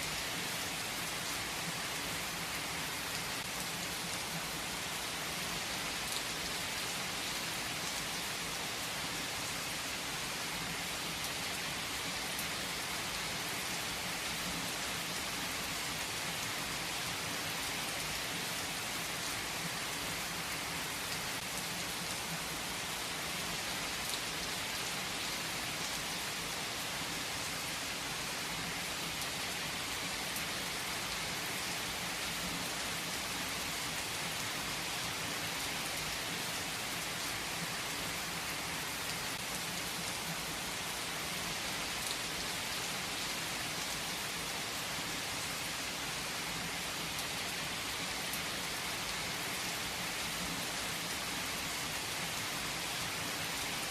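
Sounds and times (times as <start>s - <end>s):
rain hissing on a surface: 0.0s - 53.9s.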